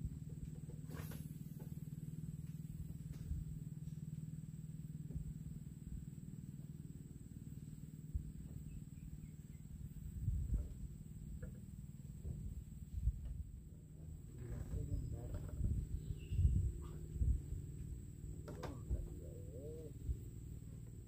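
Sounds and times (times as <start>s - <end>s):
small boat engine running: 0.0s - 21.0s.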